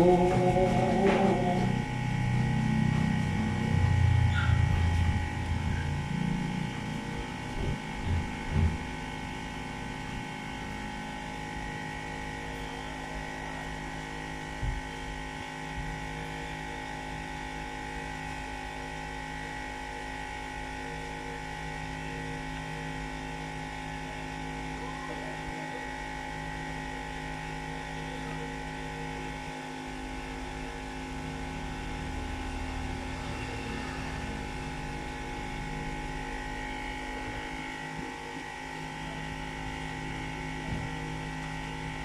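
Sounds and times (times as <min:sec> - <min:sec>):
steady electrical hum: 0:00.0 - 0:42.0.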